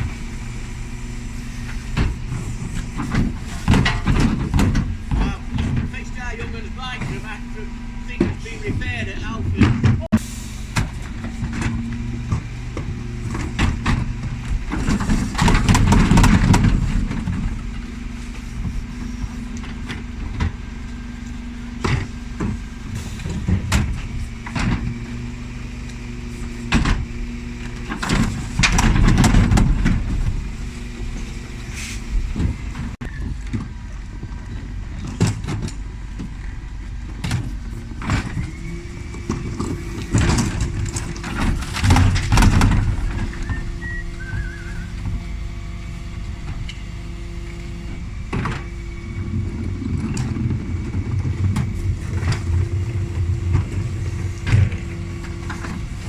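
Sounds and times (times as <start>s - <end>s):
lorry engine running: 0.0s - 56.0s
wheelie bins knocking and clattering: 1.7s - 46.7s, 47.9s - 56.0s.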